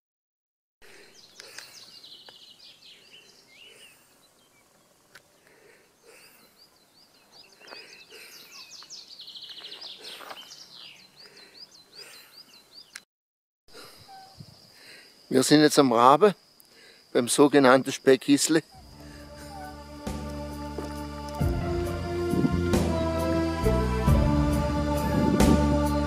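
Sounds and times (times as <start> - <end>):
songbirds chirping and trilling: 0.8 - 13.0, 13.8 - 23.9.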